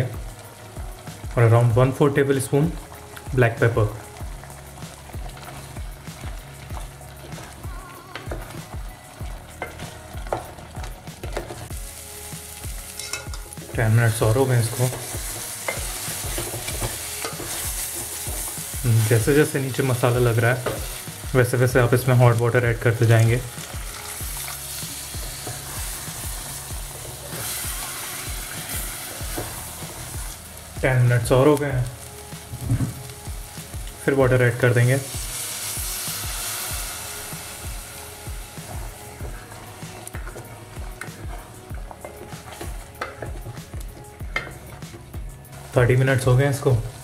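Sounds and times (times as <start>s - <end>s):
background music with steady beat: 0.0s - 47.0s
gravy sizzling: 0.0s - 47.0s.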